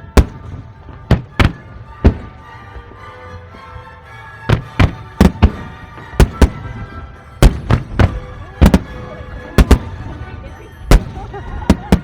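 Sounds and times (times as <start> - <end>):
fireworks bangs: 0.0 - 2.9, 4.5 - 12.0
background music: 0.0 - 12.0.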